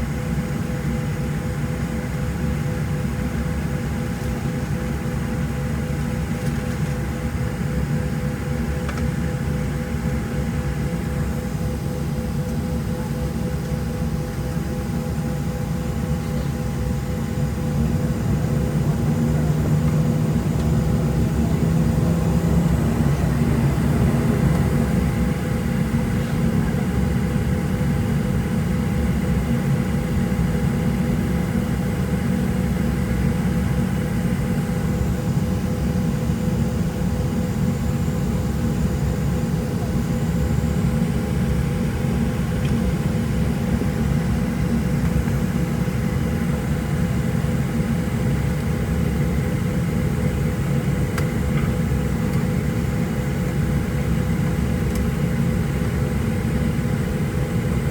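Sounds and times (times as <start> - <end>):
jet engine whine: 0.0 - 57.9
airplane cabin rumble: 0.4 - 57.9.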